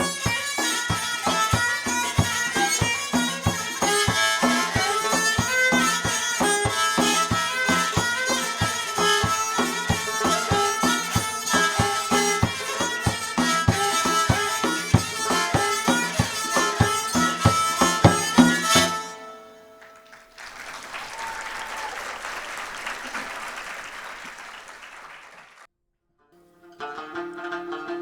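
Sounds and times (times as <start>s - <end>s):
traditional instrumental music: 0.0s - 21.4s, 26.4s - 28.0s.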